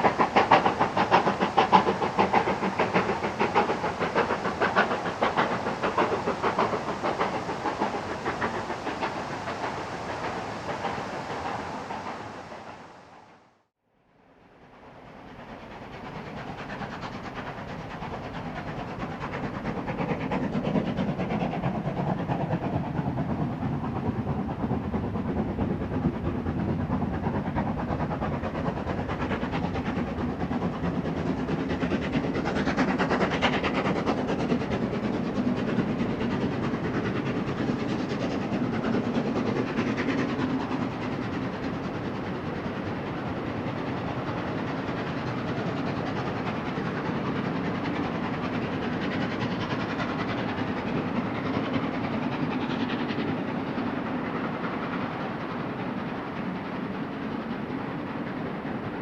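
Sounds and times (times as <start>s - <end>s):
train wheel clatter: 0.0s - 12.8s, 15.0s - 59.0s
steam locomotive exhaust beats: 0.0s - 13.6s, 14.2s - 59.0s.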